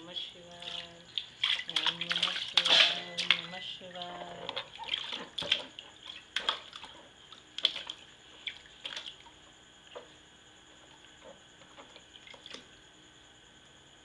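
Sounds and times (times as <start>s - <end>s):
water splashing in plastic tub: 0.0s - 10.1s, 10.8s - 12.8s.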